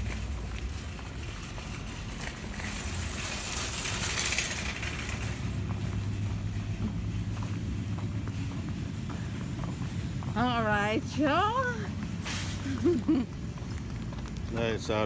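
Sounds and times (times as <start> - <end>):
vehicle passing: 0.0 - 15.0.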